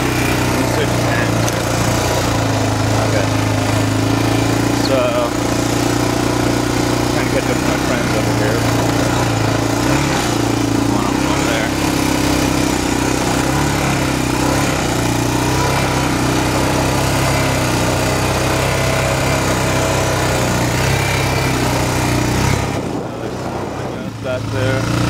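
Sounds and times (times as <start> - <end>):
atv engine running: 0.0 - 25.0
wind and ride noise: 0.0 - 25.0.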